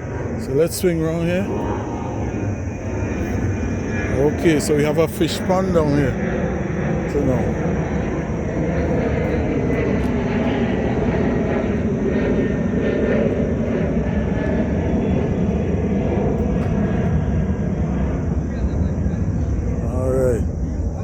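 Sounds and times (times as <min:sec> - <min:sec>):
airplane engines rumbling overhead: 0:00.0 - 0:21.0
faint high whine: 0:00.0 - 0:21.0.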